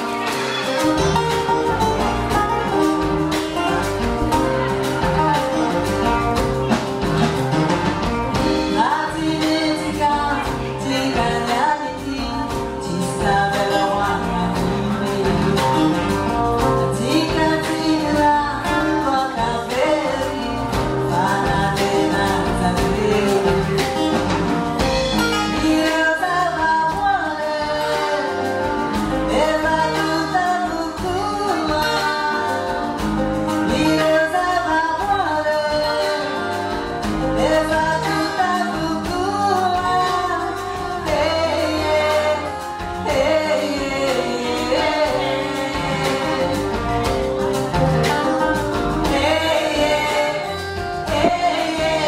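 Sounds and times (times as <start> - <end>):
drums: 0.0 - 52.0
guitars: 0.0 - 52.0
woman singing: 8.3 - 52.0.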